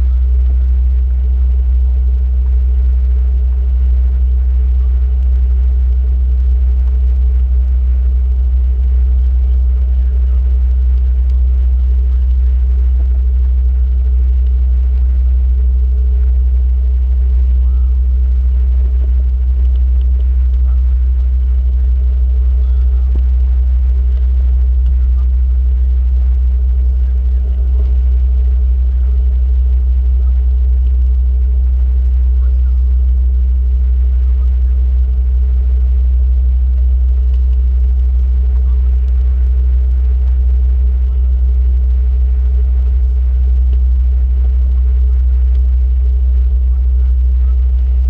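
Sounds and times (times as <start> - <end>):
boat engine droning: 3.2 - 48.0.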